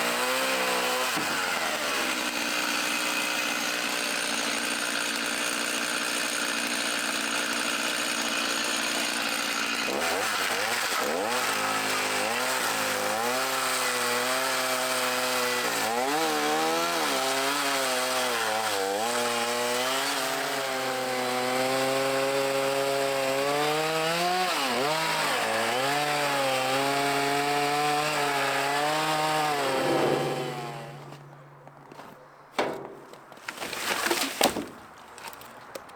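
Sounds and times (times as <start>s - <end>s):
chainsaw cutting wood: 0.0s - 31.4s.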